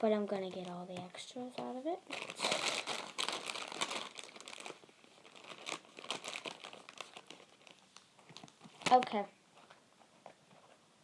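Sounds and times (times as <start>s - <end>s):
plastic crinkling: 0.0s - 9.8s.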